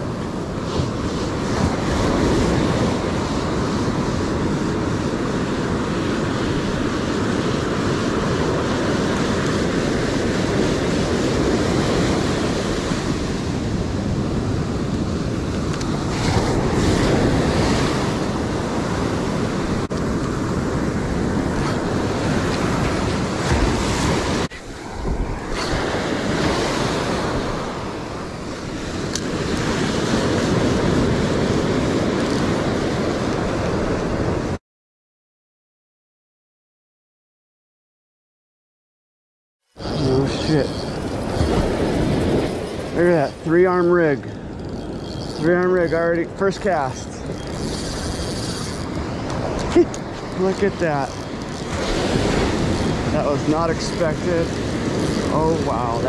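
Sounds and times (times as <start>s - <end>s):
ocean surf breaking: 0.0s - 34.6s, 39.8s - 56.0s
wind buffeting microphone: 0.0s - 34.6s, 39.8s - 56.0s.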